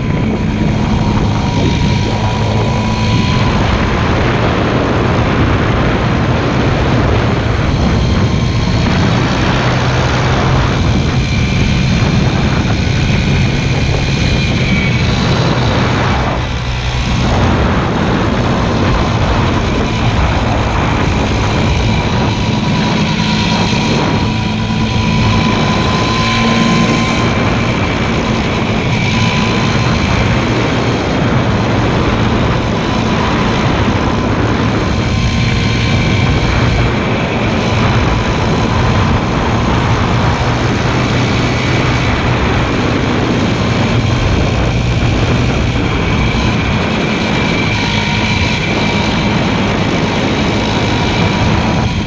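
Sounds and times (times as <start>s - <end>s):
motorcycle engine running: 0.0s - 52.0s
rush of noise: 0.0s - 52.0s.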